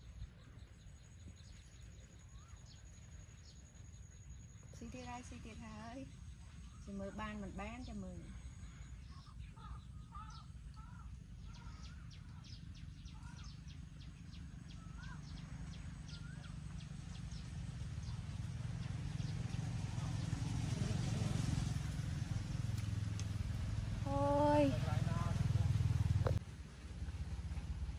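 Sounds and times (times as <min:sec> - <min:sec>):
vehicle engine: 0:04.8 - 0:27.9.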